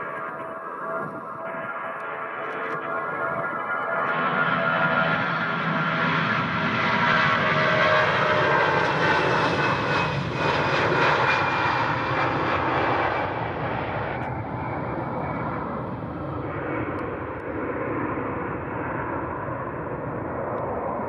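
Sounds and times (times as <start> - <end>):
airliner engines passing: 0.0 - 21.0.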